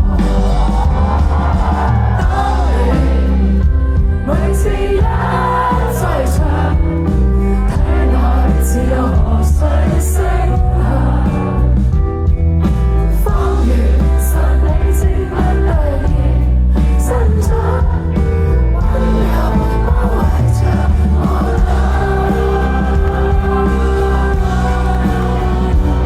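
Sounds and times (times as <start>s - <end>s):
person singing: 0.0s - 11.7s, 13.2s - 26.0s
live band music: 0.0s - 26.0s.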